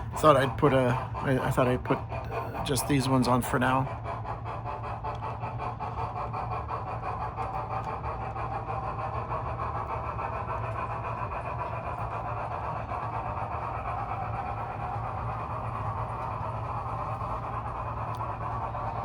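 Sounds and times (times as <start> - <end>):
low hum: 0.0 - 19.0
model locomotive chuffing: 0.0 - 19.0
train rolling on track: 0.0 - 19.0.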